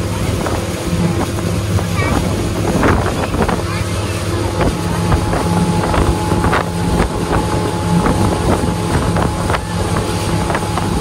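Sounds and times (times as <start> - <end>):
engine humming: 0.0 - 11.0
wind on microphone: 0.0 - 11.0.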